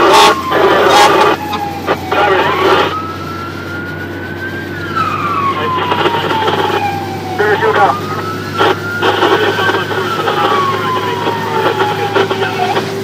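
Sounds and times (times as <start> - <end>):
fire engine siren wailing: 0.0 - 13.0
truck engine drone: 0.0 - 13.0.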